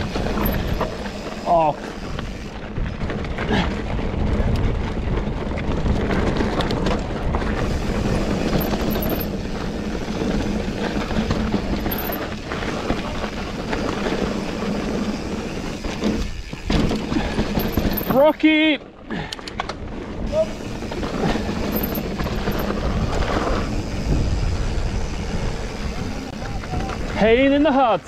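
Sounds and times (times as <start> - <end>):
bike rattling over stones: 0.0 - 28.0
tyre and wind rush: 0.0 - 28.0.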